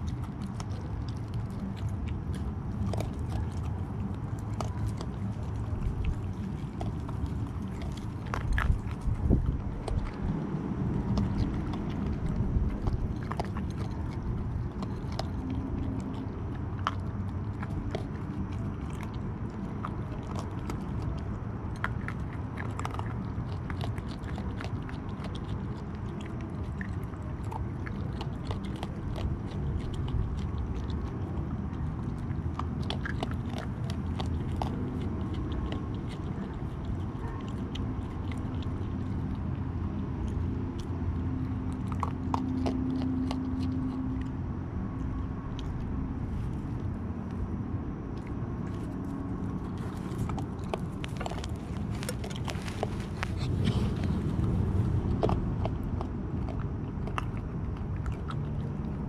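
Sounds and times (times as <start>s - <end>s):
animal crunching dry kibble: 0.0s - 59.0s
low hum: 0.0s - 59.0s.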